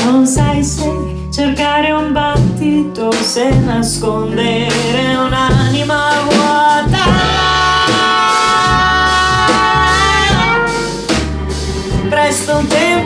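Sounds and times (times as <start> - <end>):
bass: 0.0 - 13.0
drum kit: 0.0 - 13.0
live band playing: 0.0 - 13.0.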